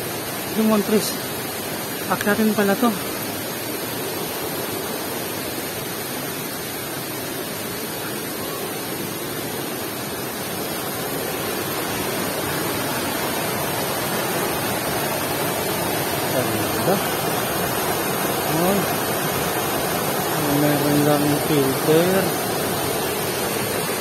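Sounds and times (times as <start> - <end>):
waterfall rushing into pool: 0.0 - 24.0.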